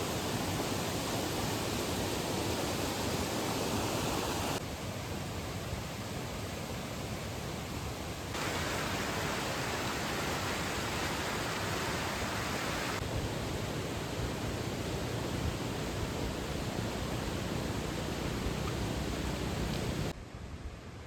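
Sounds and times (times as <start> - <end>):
mountain stream rushing: 0.0 - 20.2.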